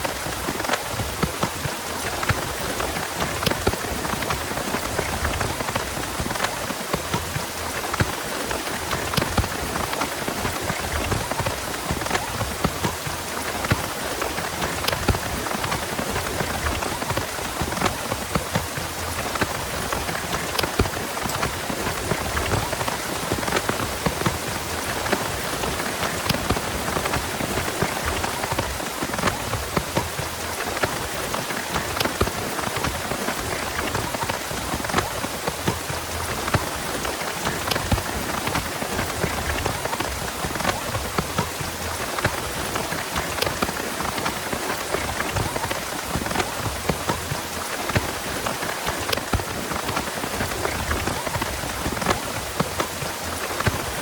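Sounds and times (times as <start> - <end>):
heavy rain falling: 0.0 - 54.0
raindrops pattering close by: 0.0 - 54.0.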